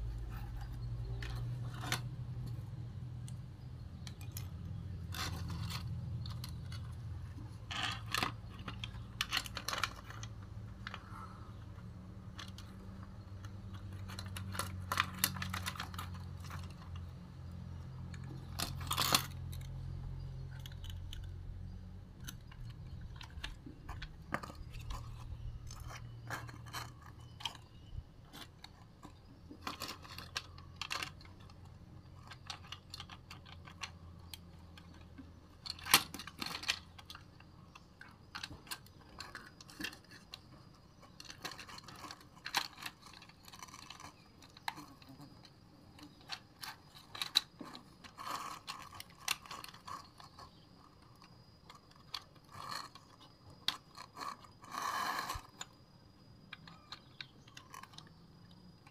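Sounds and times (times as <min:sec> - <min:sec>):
plastic toy clicking and clacking: 0:00.0 - 0:55.8, 0:56.5 - 0:58.9.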